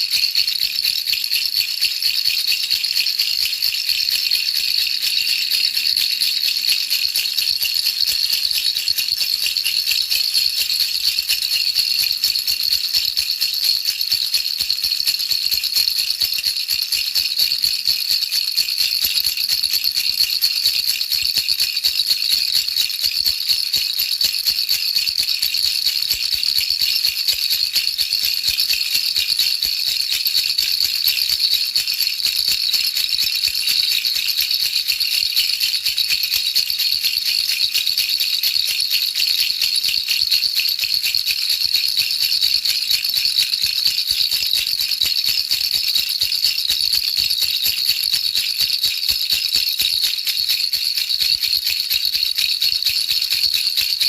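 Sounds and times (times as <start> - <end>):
toy rattle shaken: 0.0 - 54.0.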